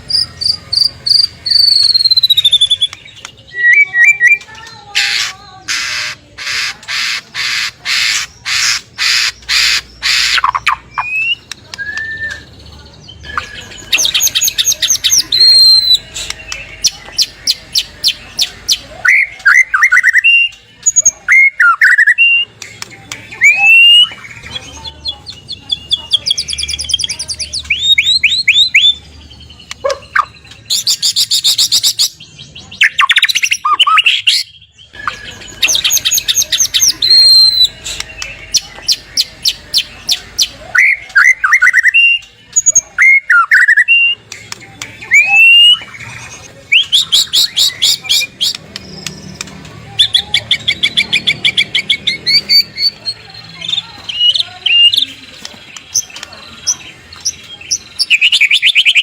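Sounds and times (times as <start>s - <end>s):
songbird singing varied phrases: 0.0s - 59.0s.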